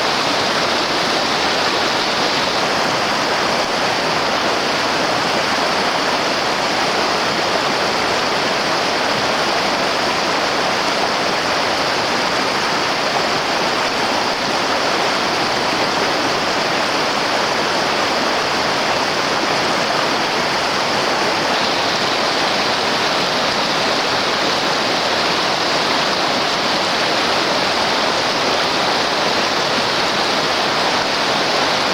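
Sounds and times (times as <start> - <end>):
river water rushing over rocks: 0.0 - 31.9.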